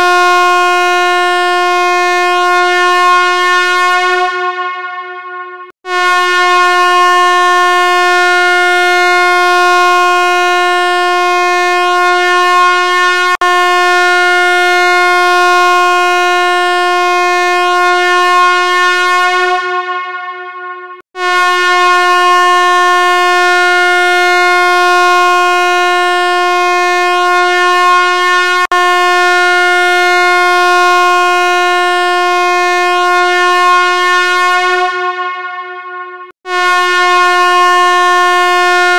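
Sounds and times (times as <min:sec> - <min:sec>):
loud buzzy steady tone: 0:00.0 - 0:38.9.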